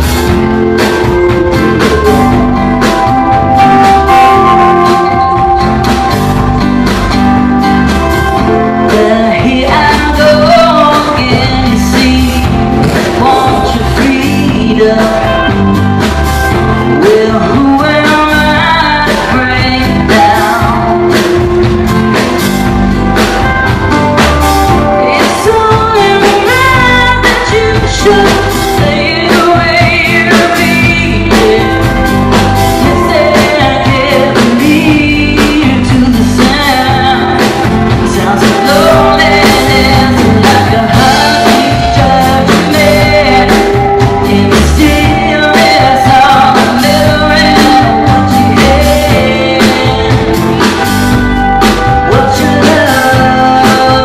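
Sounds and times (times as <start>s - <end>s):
woman singing: 0.0s - 22.6s, 23.5s - 54.0s
drum kit beat: 0.0s - 54.0s.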